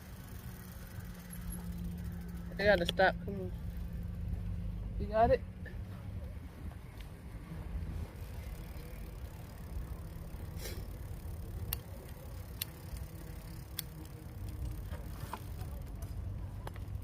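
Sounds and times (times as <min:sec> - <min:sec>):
bicycle clicking and rattling: 0:00.0 - 0:17.0.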